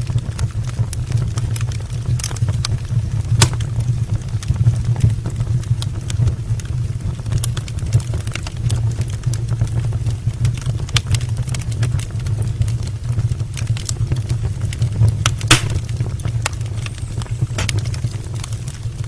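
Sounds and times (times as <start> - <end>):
fire rumbling: 0.0 - 19.0
firewood crackling and popping: 0.0 - 19.0.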